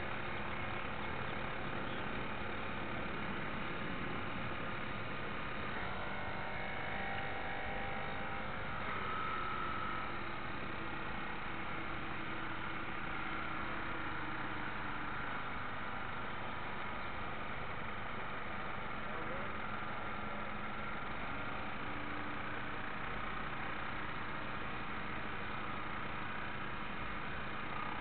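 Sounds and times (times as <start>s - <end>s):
small motor whine: 0.0s - 28.0s.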